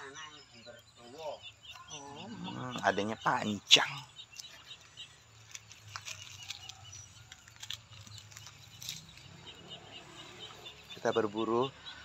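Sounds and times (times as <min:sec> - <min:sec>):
high chirps: 0:00.0 - 0:12.0.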